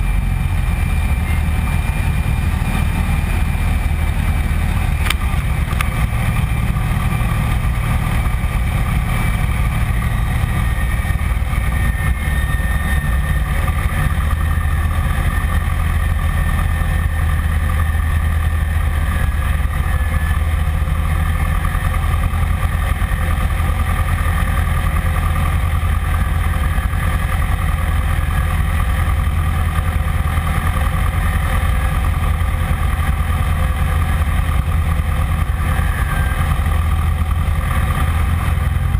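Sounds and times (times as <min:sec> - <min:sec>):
aircraft engine and propeller drone: 0:00.0 - 0:38.9
airflow over cabin: 0:00.0 - 0:38.9.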